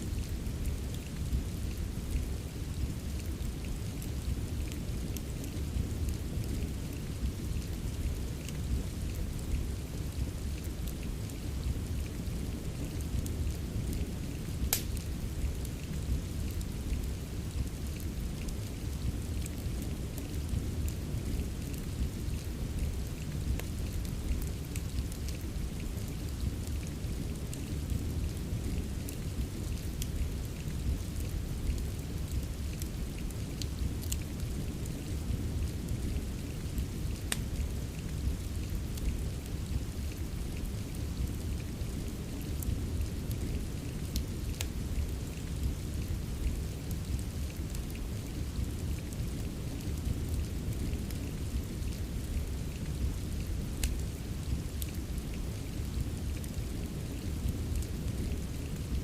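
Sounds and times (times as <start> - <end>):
fireplace crackling: 0.0 - 58.9.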